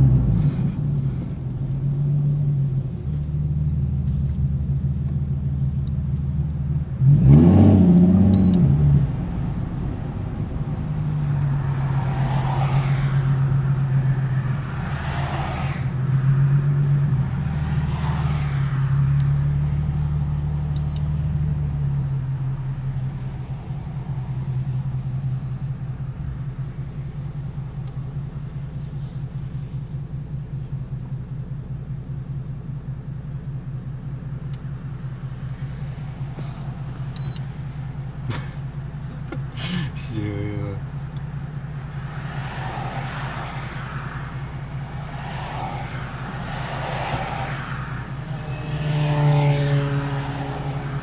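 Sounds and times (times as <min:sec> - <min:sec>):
car engine droning at low revs: 0:00.0 - 0:51.0
car engine revving: 0:00.0 - 0:51.0.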